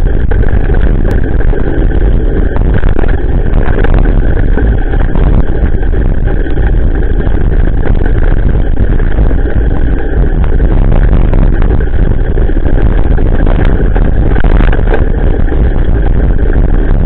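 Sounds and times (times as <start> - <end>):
bicycle road noise on gravel: 0.0 - 17.0
wind rumble on microphone: 0.0 - 17.0.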